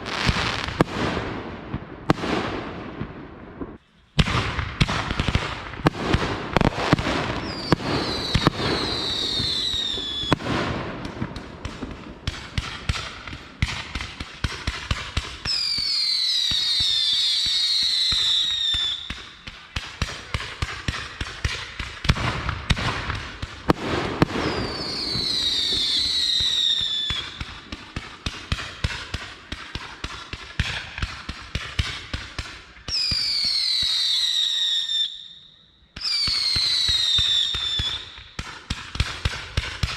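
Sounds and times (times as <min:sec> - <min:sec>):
fireworks crackling pops: 0:00.0 - 0:34.3, 0:36.0 - 0:39.9.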